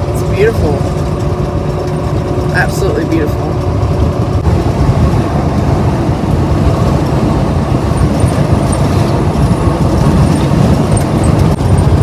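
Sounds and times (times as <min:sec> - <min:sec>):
road and wind noise inside car: 0:00.0 - 0:12.0.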